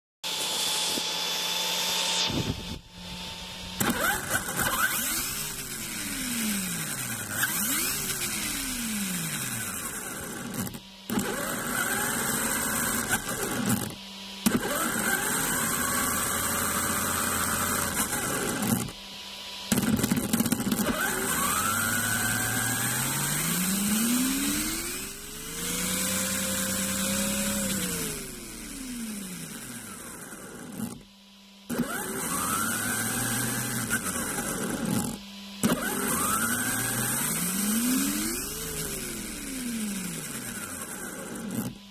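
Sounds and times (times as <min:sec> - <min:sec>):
electric motor whining: 0:00.3 - 0:41.9.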